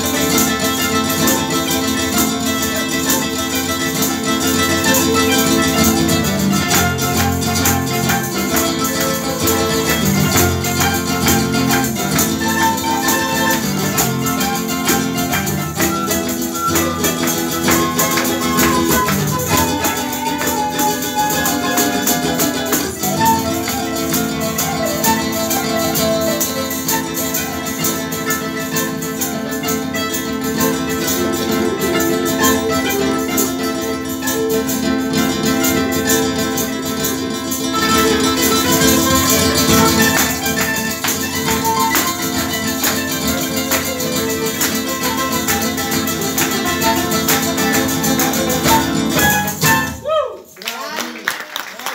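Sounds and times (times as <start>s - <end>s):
fast jingling percussion: 0.0s - 50.0s
folk ensemble playing: 0.0s - 50.2s.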